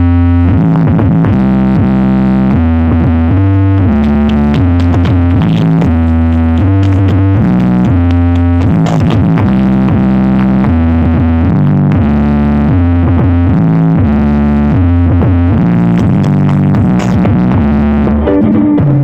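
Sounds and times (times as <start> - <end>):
deep bass notes: 0.0 - 19.0
loud electronic dance music: 0.0 - 19.0.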